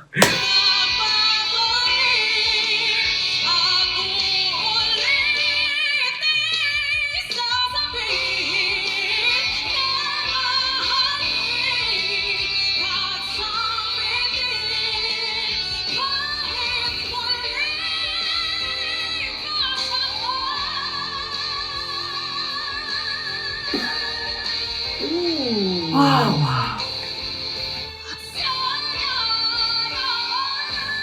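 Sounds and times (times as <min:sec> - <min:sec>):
woman singing a ballad: 0:00.6 - 0:27.0, 0:28.1 - 0:31.0.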